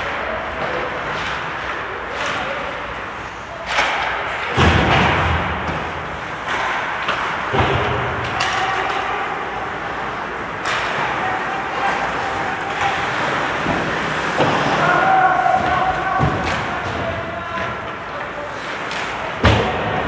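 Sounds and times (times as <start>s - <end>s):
skates and sticks on ice: 0.0s - 20.0s.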